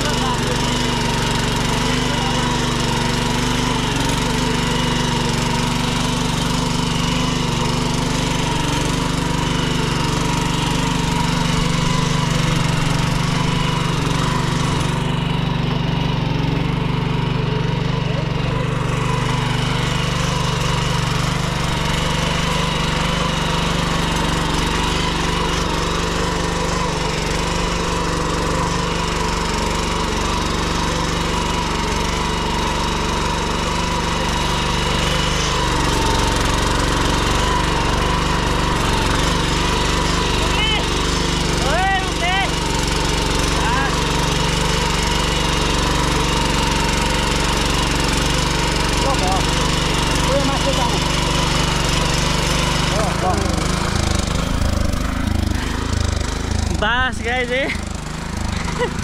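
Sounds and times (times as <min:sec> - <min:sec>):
tiller engine running: 0:00.0 - 0:59.0
tines churning soil: 0:00.0 - 0:59.0.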